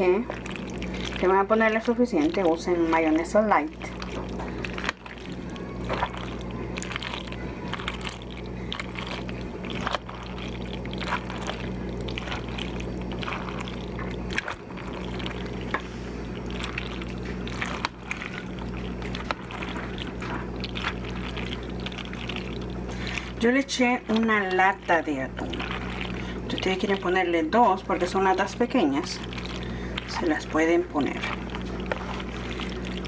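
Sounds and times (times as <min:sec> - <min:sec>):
low hum: 0:00.0 - 0:33.0
utensil scraping bowl: 0:00.0 - 0:33.0
wet mixing swishes: 0:00.0 - 0:33.0.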